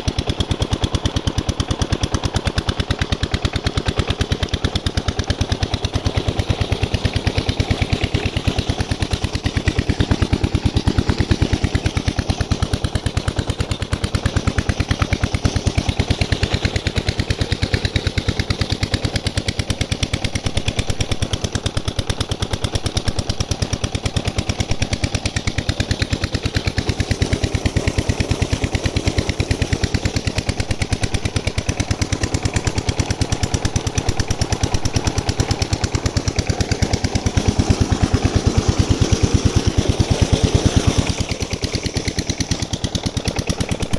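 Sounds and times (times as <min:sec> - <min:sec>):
diesel water pump engine knocking: 0:00.0 - 0:43.9.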